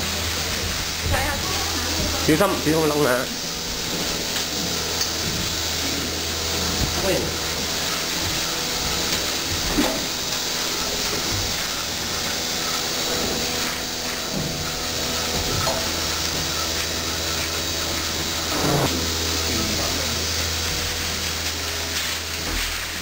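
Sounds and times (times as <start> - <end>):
milking machine hum and hiss: 0.0 - 23.0.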